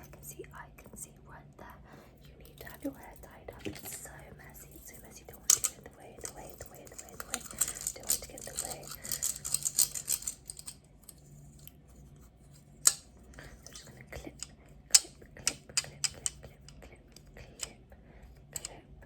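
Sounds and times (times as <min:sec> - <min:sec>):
soft handling noise: 0:00.0 - 0:19.0.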